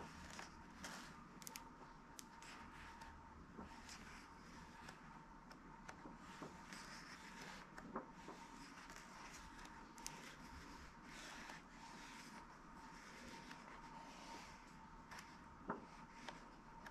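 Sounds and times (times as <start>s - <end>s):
book pages turning: 0.0s - 16.9s.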